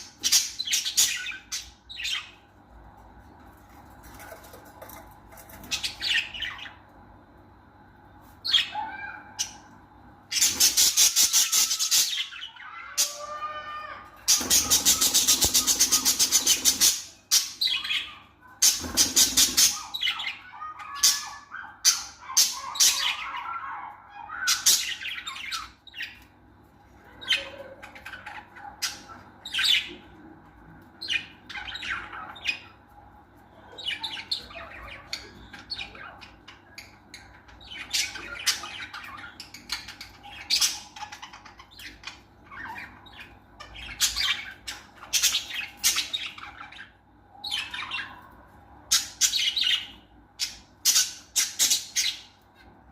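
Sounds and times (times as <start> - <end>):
lovebirds squawking and chirping: 0.0 - 2.7, 3.6 - 7.0, 8.4 - 52.9.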